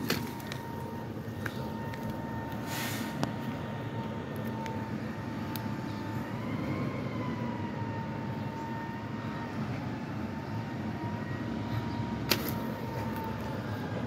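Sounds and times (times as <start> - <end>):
distant garbage truck rumble: 0.0 - 14.0.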